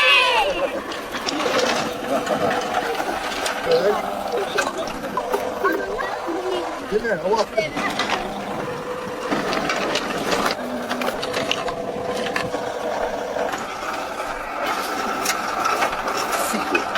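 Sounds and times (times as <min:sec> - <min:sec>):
irregular clicks and rattles: 0:00.0 - 0:16.9
small mechanism whirring: 0:00.0 - 0:16.9.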